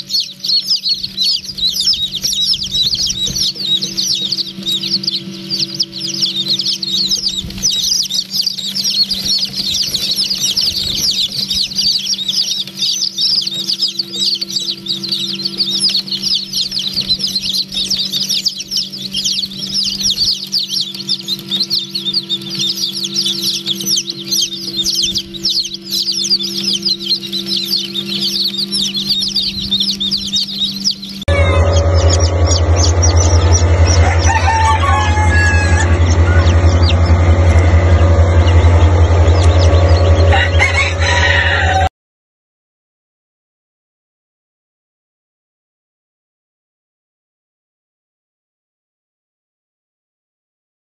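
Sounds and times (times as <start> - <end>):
chicks peeping: 0.0 - 41.9
steady low hum: 0.0 - 41.9.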